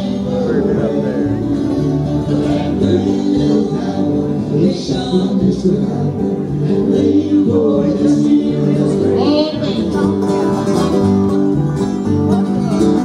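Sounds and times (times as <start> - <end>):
music with singing: 0.0 - 13.0.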